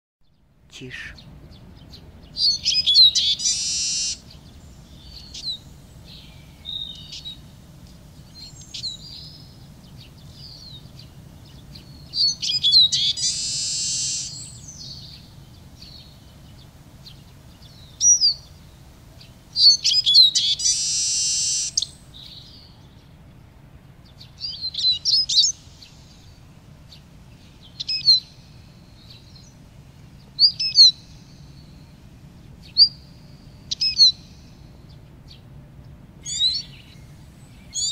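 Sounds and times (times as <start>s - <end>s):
high bird chirps and trills: 0.2s - 7.5s, 8.2s - 23.0s, 24.1s - 29.6s, 30.2s - 32.0s, 32.6s - 35.4s, 36.2s - 37.9s
bird song twittering: 0.2s - 23.2s, 24.0s - 37.9s.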